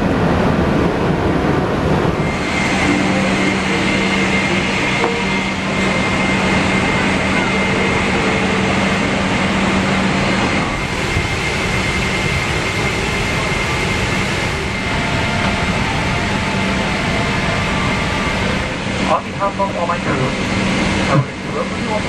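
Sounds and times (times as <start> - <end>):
air conditioning rush and hum: 0.0 - 22.0
thin high whine: 2.1 - 22.0.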